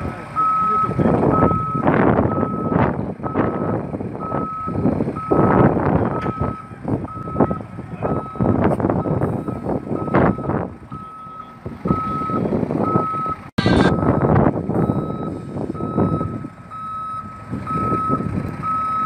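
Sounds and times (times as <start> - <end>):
heavy vehicle rumbling: 0.0 - 19.0
reversing alarm beeping: 0.4 - 19.0.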